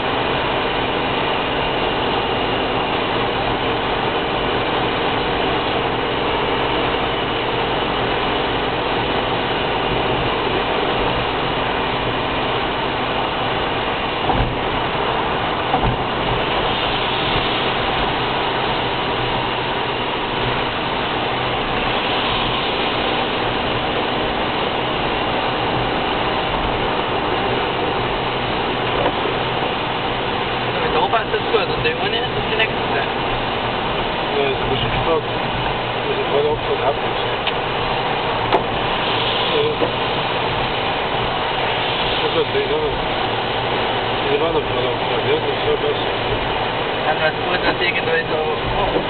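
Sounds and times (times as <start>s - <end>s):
car road and engine noise: 0.0s - 49.0s
tyres on wet road: 0.0s - 49.0s.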